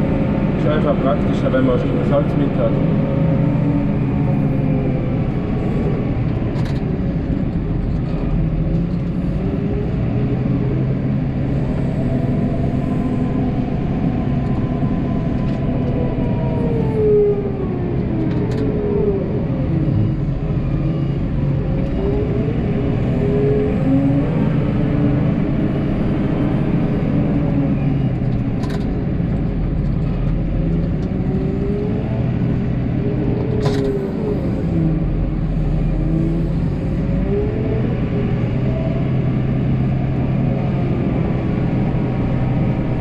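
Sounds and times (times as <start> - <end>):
snowplow engine running: 0.0 - 43.0.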